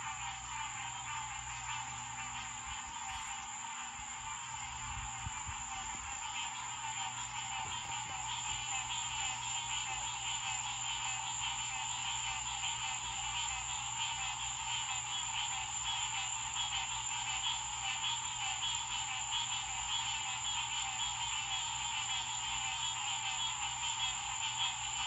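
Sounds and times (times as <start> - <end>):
frogs calling: 0.0 - 25.0.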